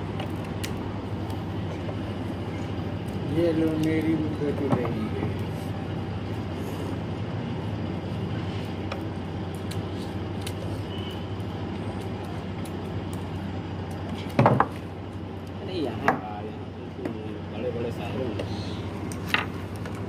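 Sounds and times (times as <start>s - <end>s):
low mechanical hum and rumble: 0.0s - 20.0s.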